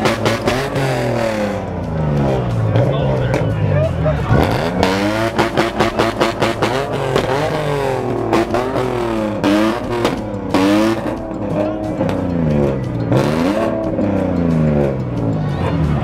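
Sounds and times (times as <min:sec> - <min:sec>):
engine revving hard: 0:00.0 - 0:16.0.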